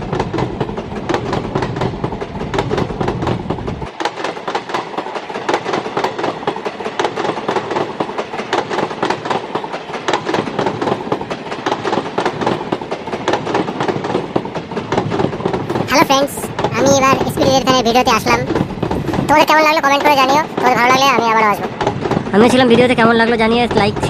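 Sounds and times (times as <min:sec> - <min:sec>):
wheels clattering over rail joints: 0:00.0 - 0:24.0.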